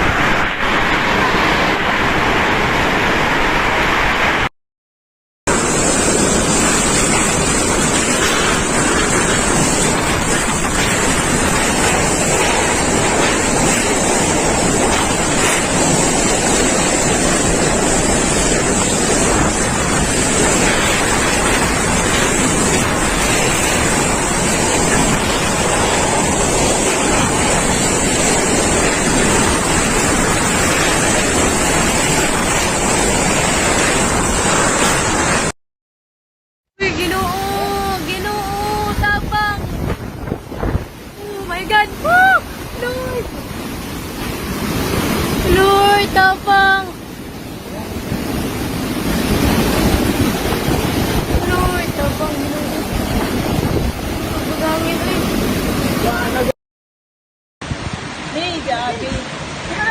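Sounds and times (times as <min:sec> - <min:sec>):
strong wind rushing: 0:00.0 - 0:04.5, 0:05.5 - 0:35.5, 0:36.8 - 0:56.5, 0:57.6 - 0:59.9
wind buffeting microphone: 0:05.5 - 0:35.5, 0:36.8 - 0:56.5, 0:57.6 - 0:59.9.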